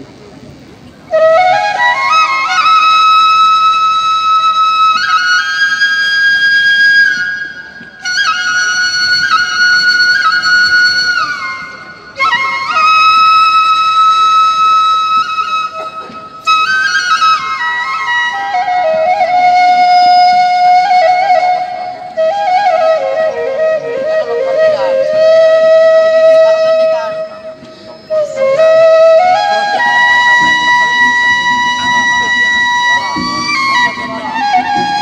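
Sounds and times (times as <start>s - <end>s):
flute-like wind instrument melody: 0.2s - 35.0s.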